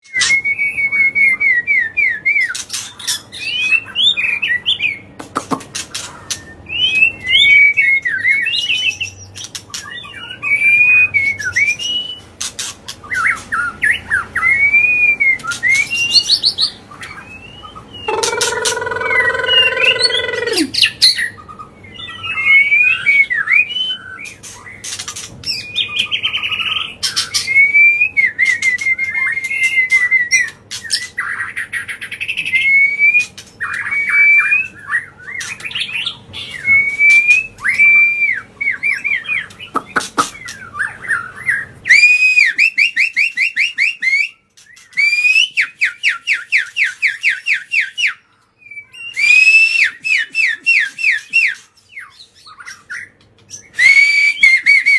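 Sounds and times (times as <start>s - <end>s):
songbird singing: 0.0s - 54.9s
background hum: 0.1s - 54.9s.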